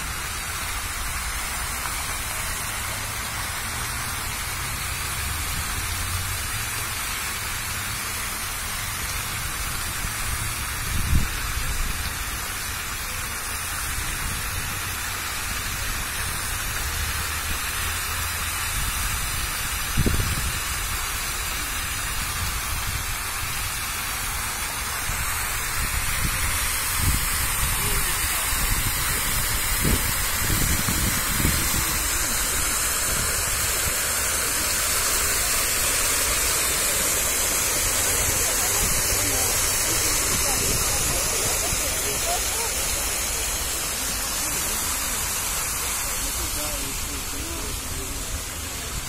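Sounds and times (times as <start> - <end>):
fountain water splashing: 0.0 - 49.0.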